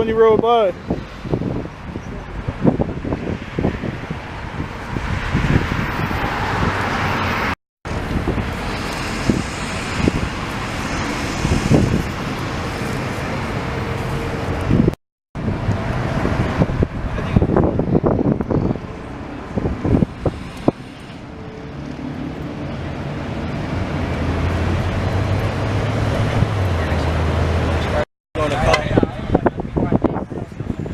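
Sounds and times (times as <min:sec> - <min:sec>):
cars driving past: 0:00.8 - 0:29.4.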